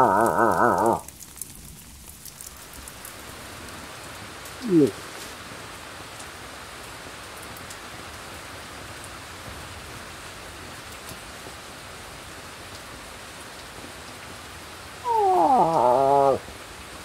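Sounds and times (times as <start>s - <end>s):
rain on brush: 0.0s - 17.0s.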